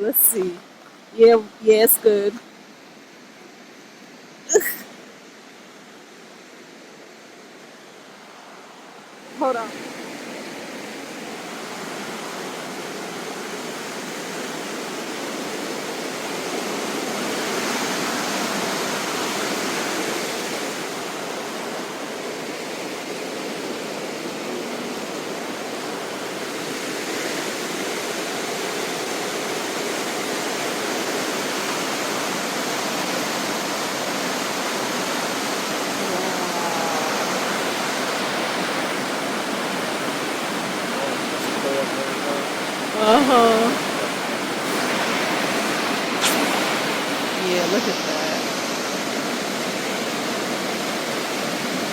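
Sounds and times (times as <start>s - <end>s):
waterfall rushing: 7.9s - 51.9s.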